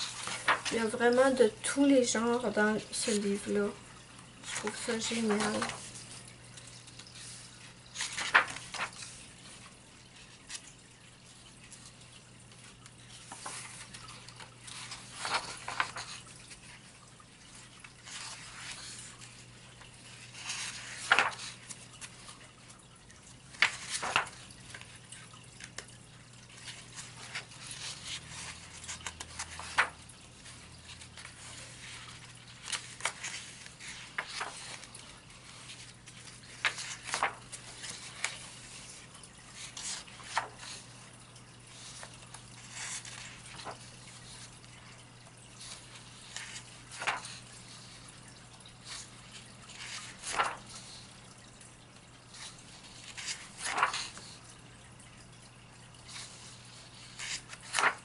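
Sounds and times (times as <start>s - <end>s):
paper pages rustling: 0.0s - 10.8s, 11.4s - 58.0s.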